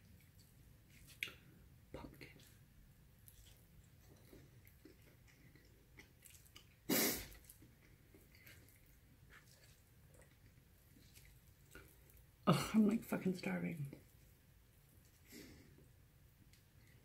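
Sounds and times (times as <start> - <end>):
quiet chewing with mouth smacks: 0.0 - 12.4, 13.8 - 17.0.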